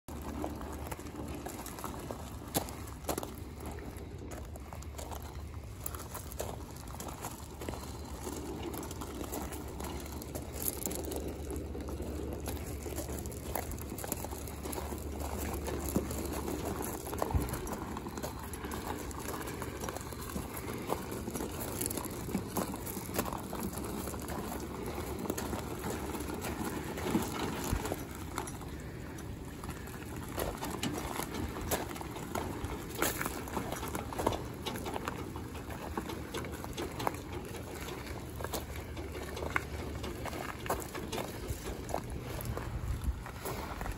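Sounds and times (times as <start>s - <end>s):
tyres crunching on gravel: 0.1s - 43.9s.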